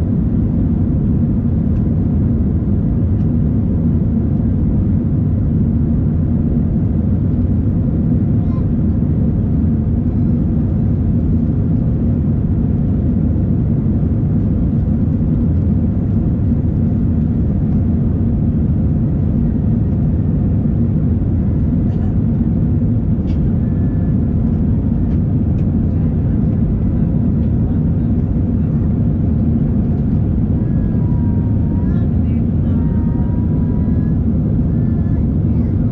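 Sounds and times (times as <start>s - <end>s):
airliner cabin rumble: 0.0s - 35.9s.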